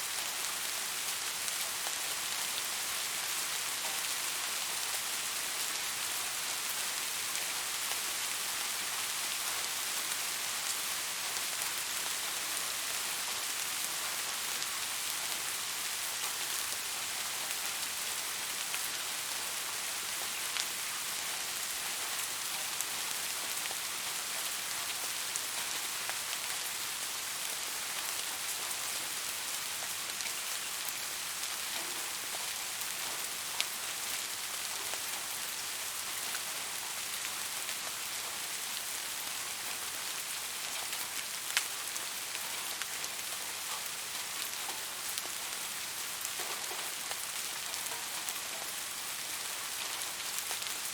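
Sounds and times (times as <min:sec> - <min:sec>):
soft rain falling: 0:00.0 - 0:50.9.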